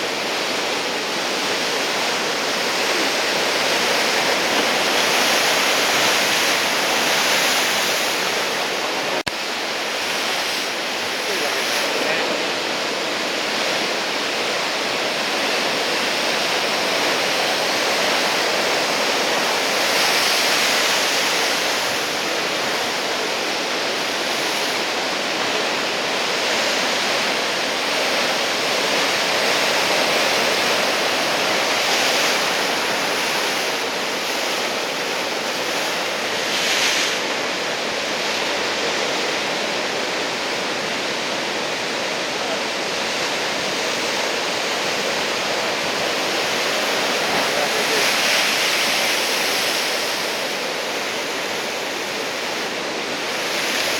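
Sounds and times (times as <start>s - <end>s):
heavy surf breaking: 0.0s - 53.9s.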